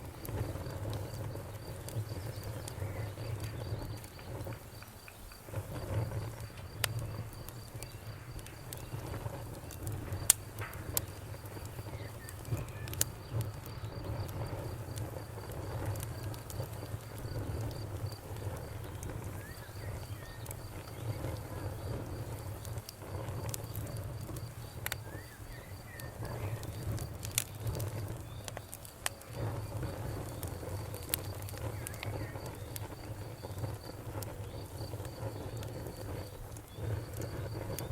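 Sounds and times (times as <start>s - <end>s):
campfire crackling and popping: 0.0s - 37.9s
crickets chirping: 0.0s - 37.9s.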